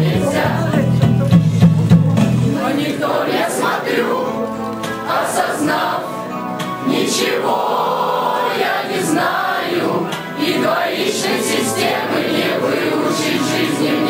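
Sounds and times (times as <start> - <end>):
group singing in chorus: 0.0 - 1.1, 2.4 - 14.0
musical accompaniment: 0.0 - 14.0.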